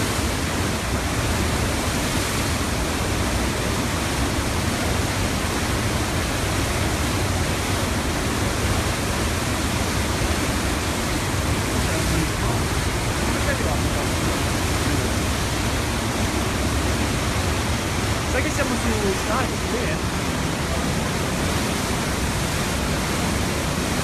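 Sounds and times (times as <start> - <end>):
flooded river rushing: 0.0 - 24.0.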